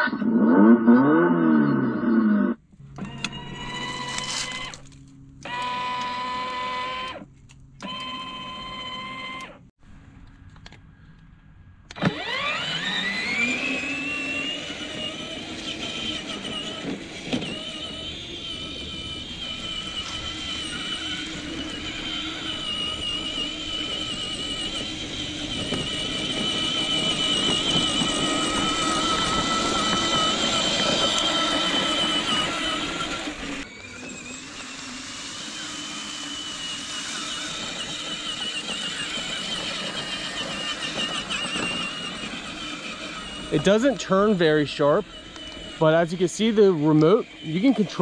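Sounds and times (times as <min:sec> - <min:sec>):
electric motor whine: 0:00.0 - 0:09.7, 0:11.9 - 0:48.0
plastic wheels rolling: 0:03.0 - 0:06.1, 0:11.9 - 0:48.0.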